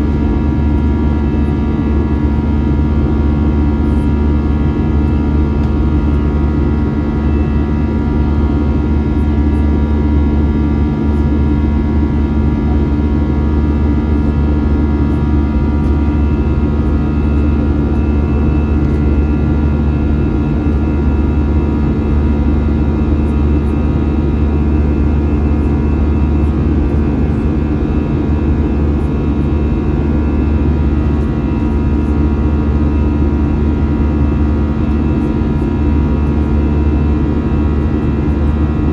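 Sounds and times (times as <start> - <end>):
engine whine: 0.0 - 38.9
jet engine drone in cabin: 0.0 - 38.9.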